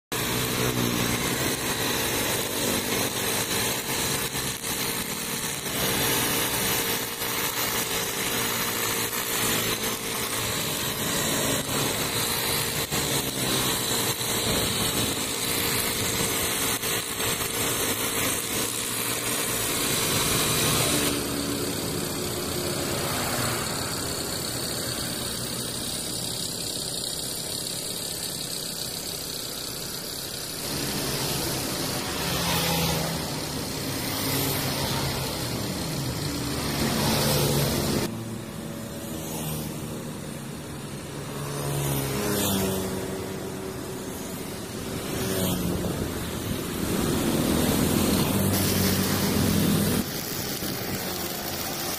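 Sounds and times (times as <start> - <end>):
brush cutter engine running: 0.1 - 51.9
trimmer line cutting grass: 0.1 - 51.9.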